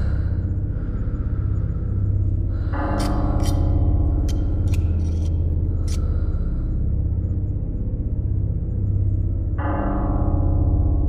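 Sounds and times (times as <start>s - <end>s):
deep horror music drone: 0.0s - 11.0s.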